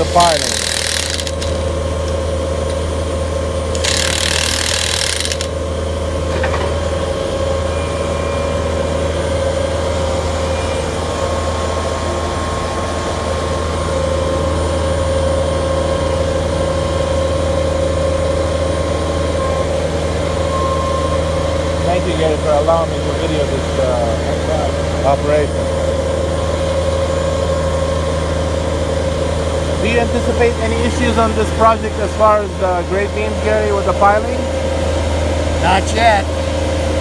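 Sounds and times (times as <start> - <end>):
pile-driving rig engine humming: 0.0 - 37.0.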